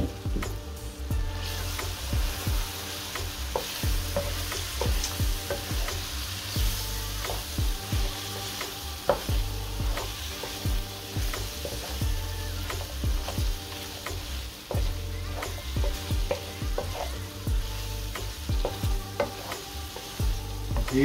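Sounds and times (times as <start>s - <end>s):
fries sizzling in frying pan: 0.0s - 21.0s
spatula knocking and scraping pan: 1.8s - 21.0s.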